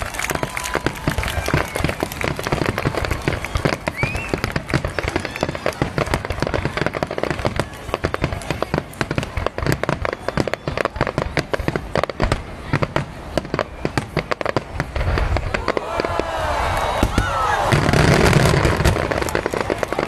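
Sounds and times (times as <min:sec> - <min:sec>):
fireworks bursting and crackling: 0:00.0 - 0:20.0
sharp fireworks bangs: 0:00.0 - 0:20.0.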